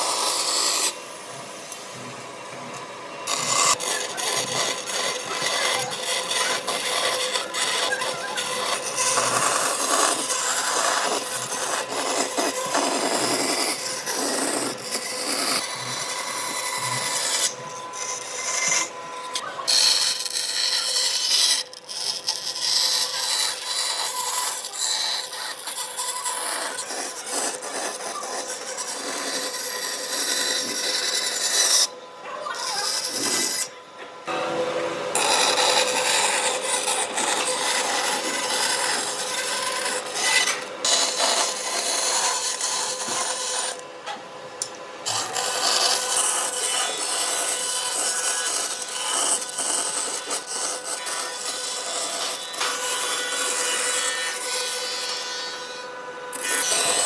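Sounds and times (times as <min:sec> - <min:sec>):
hand tool rasping wood: 0:00.0 - 0:34.4, 0:35.1 - 0:43.9, 0:45.0 - 0:57.0.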